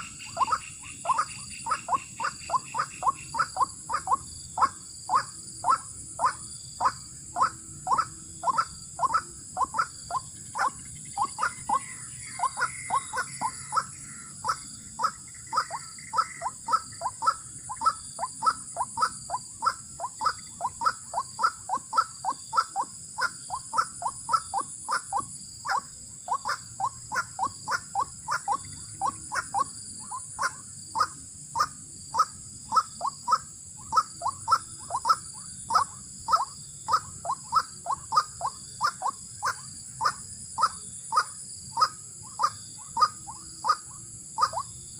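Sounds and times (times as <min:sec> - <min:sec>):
waterhen calling: 0:00.0 - 0:44.7.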